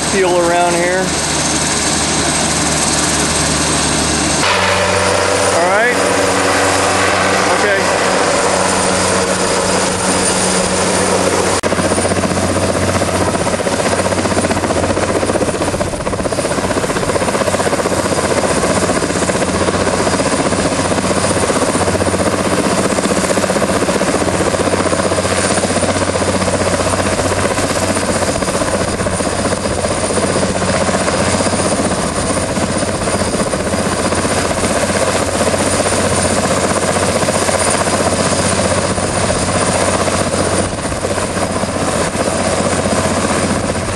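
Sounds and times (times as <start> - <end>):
helicopter rotor noise: 0.0 - 43.9
high turbine whine: 0.0 - 43.9.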